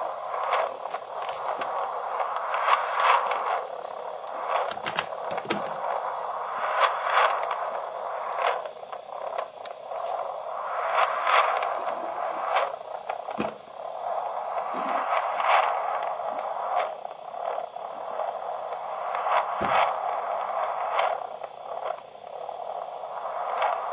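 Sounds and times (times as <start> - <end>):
static-like hiss: 0.0 - 23.9.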